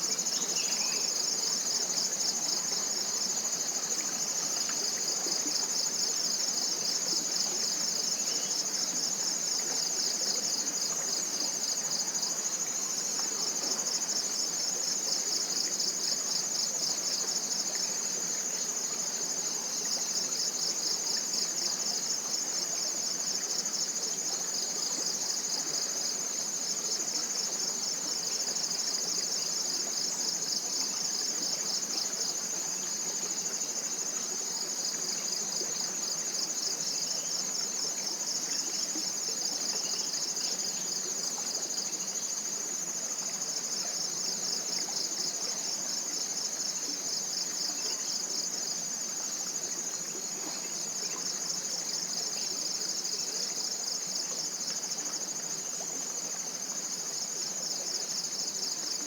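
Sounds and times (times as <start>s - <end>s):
rapidly pulsing insect trill: 0.0s - 59.0s
steady high-pitched insect trill: 0.0s - 59.0s.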